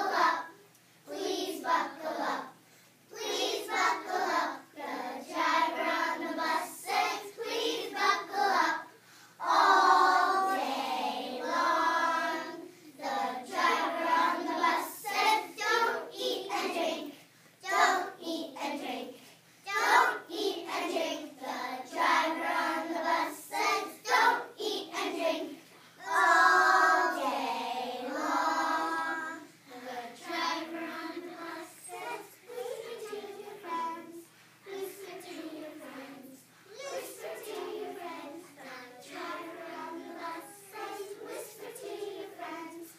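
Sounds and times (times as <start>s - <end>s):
children singing in unison: 0.0s - 2.5s, 3.2s - 18.9s, 19.7s - 42.9s.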